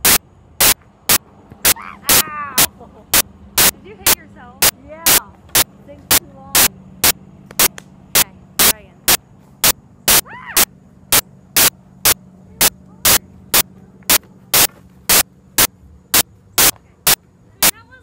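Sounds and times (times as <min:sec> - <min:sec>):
sharp clicks: 0:00.0 - 0:17.8
low electrical hum: 0:00.0 - 0:18.0.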